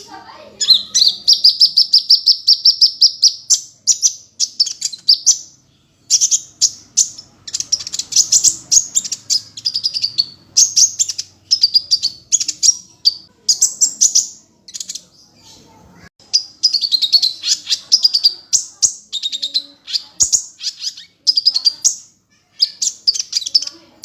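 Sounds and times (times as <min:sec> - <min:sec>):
bird chattering song: 0:00.0 - 0:24.0.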